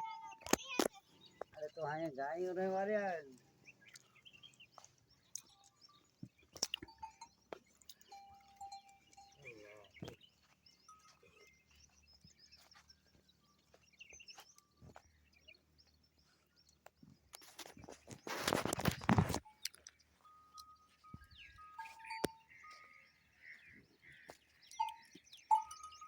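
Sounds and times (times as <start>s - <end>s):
faint chirps and clicks: 0.0s - 2.2s, 3.0s - 26.0s.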